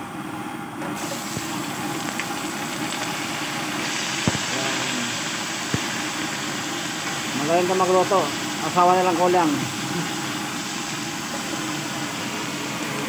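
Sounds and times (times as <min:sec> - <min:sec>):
chicken sizzling in hot oil: 0:01.0 - 0:13.0.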